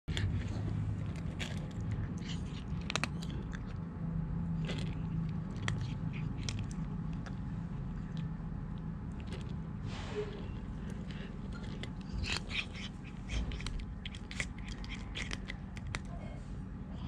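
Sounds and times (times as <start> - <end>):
cat crunching dry kibble: 0.1 - 16.2
steady low hum: 0.1 - 17.0.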